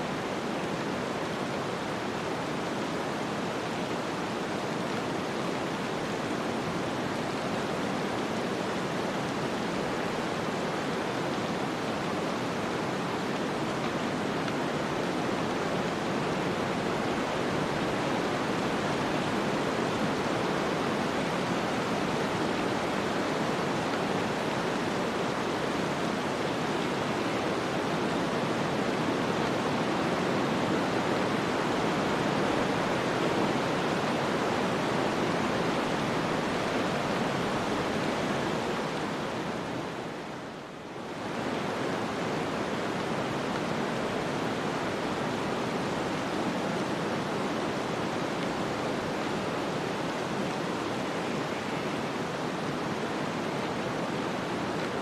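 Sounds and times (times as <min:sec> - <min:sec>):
snowstorm wind hiss: 0:00.0 - 0:55.0.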